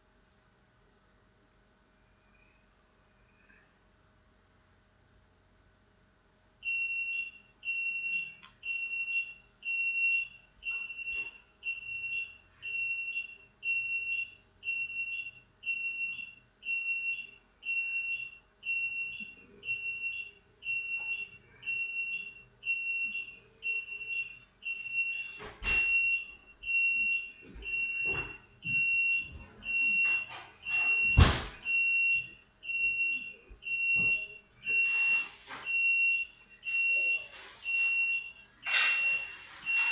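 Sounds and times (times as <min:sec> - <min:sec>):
electronic beeper beeping: 0:06.7 - 0:39.9.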